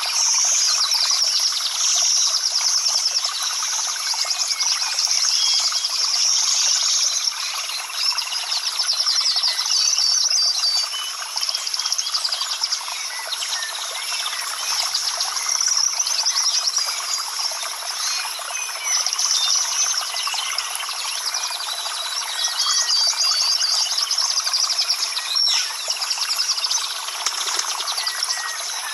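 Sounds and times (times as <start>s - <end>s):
birds chirping and trilling: 0.0s - 28.9s.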